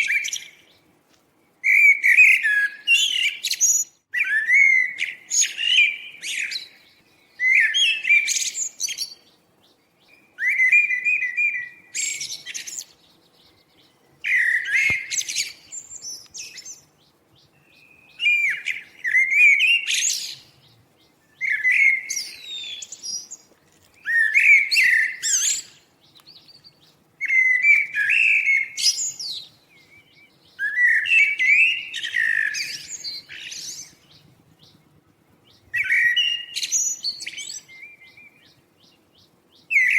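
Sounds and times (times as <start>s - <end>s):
songbird warbling song: 0.0s - 39.9s.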